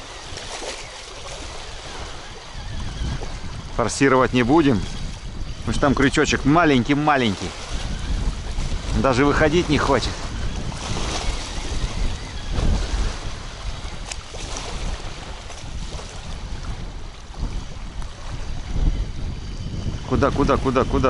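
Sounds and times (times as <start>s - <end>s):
waves lapping at shore: 0.0s - 21.0s
wind buffeting microphone: 0.0s - 21.0s.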